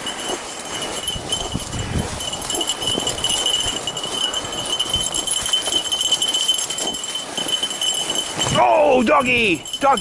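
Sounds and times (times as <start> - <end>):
crunching over snow: 0.0 - 10.0
light jingling: 0.0 - 10.0.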